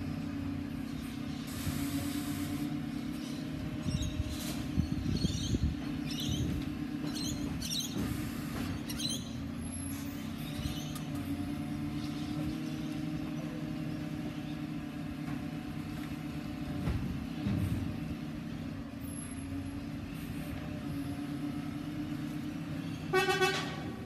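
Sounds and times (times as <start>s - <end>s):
distant garbage truck engine: 0.0s - 24.0s.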